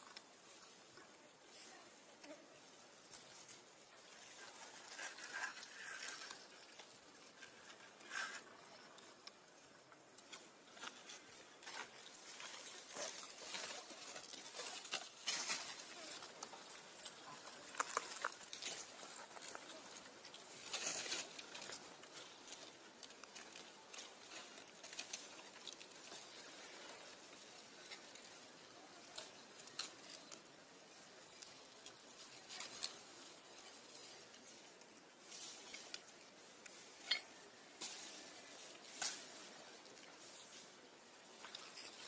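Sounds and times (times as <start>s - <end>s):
rustling on dry leaves: 0.0s - 42.0s.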